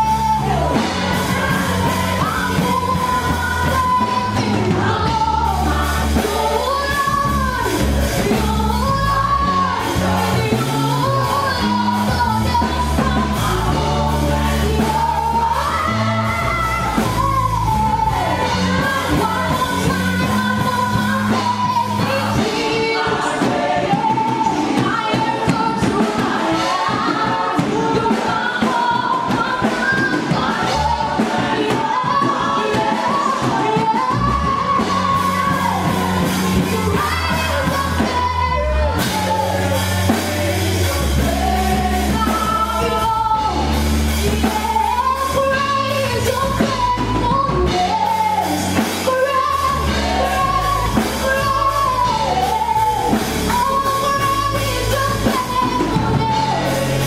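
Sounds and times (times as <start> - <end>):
deep bass line: 0.0 - 24.8, 33.5 - 57.0
band with drums: 0.0 - 57.0
voices singing worship song: 0.0 - 57.0.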